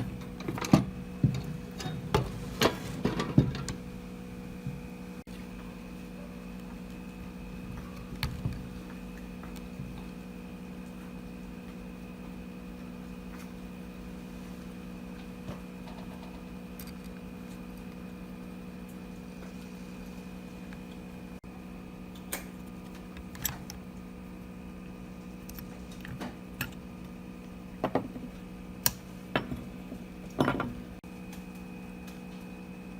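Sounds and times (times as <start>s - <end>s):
steady multi-pitch hum: 0.0s - 32.9s.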